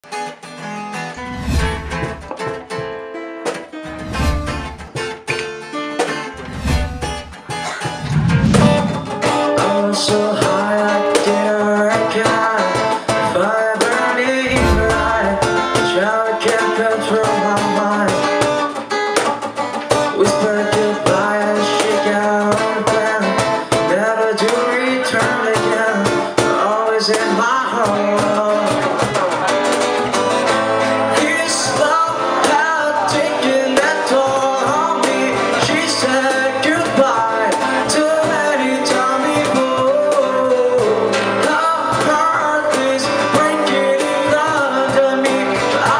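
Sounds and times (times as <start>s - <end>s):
live band with singing: 1.1s - 45.9s.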